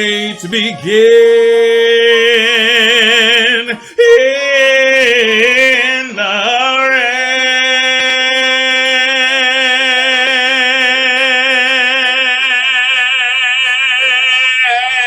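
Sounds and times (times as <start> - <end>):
man singing a long note: 0.0 - 15.0.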